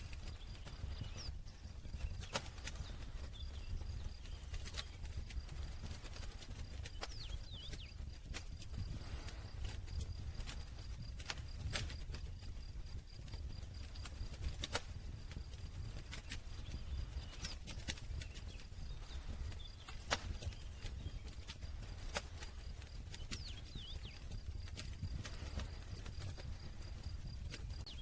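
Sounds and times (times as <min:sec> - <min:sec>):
campfire crackling and popping: 0:00.0 - 0:28.0
low rumble of burning fire: 0:00.0 - 0:28.0.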